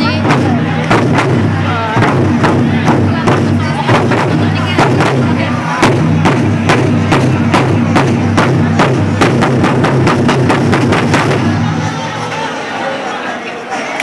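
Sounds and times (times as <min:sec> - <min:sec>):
ensemble beating barrel drums: 0:00.0 - 0:12.5.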